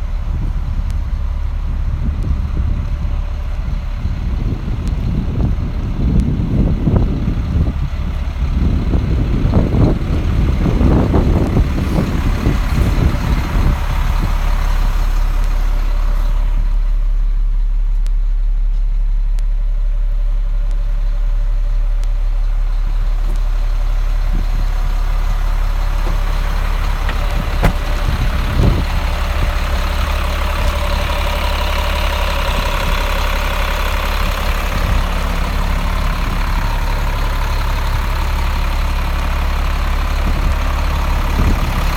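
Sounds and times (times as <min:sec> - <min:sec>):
wind buffeting microphone: 0:00.0 - 0:16.5, 0:23.2 - 0:41.9
diesel truck engine idling: 0:00.0 - 0:41.9.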